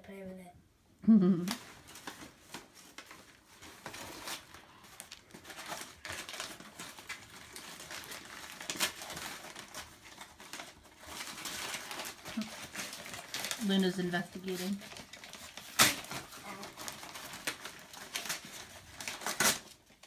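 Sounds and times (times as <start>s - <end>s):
wrapping paper crinkling and tearing: 1.4s - 20.0s.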